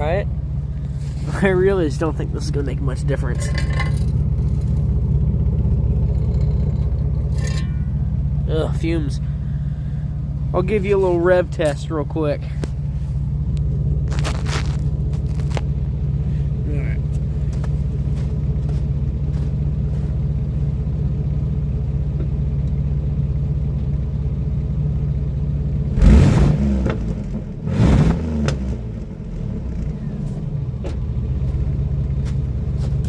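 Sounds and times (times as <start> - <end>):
truck exhaust idling and revving: 0.0 - 33.0.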